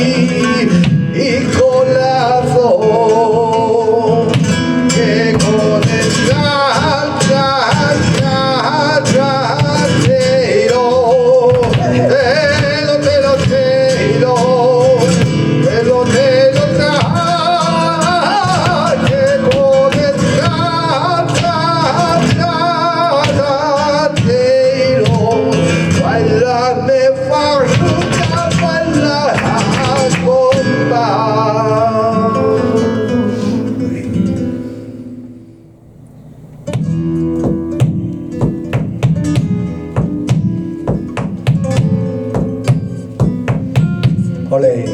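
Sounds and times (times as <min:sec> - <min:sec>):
flamenco guitar: 0:00.0 - 0:44.9.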